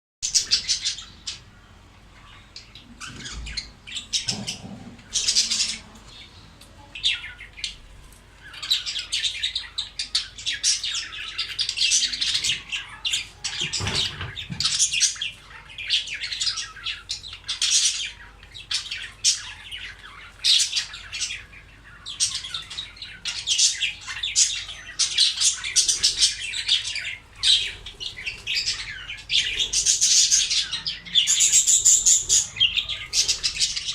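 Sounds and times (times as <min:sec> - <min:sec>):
budgerigars chirping and squawking: 0:00.2 - 0:33.9.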